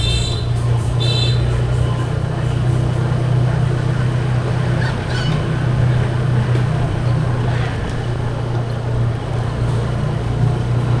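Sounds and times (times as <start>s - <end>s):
road and rushing air noise: 0.0s - 11.0s
vehicle engine drone: 0.0s - 11.0s.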